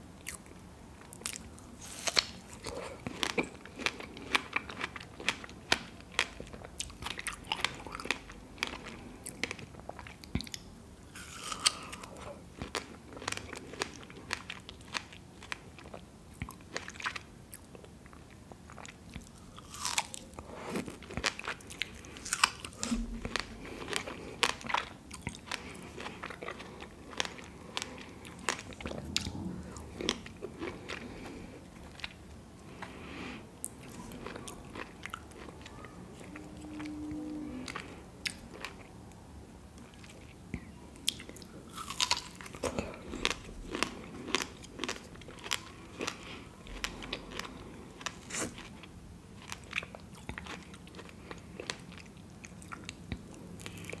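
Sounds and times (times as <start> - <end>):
biting and wet chewing: 0.2 - 39.0, 39.8 - 54.0.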